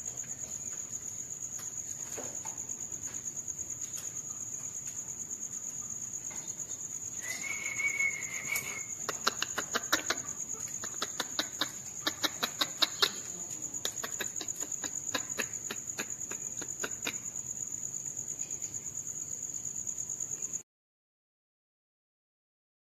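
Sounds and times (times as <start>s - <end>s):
insects chirring: 0.0s - 20.6s.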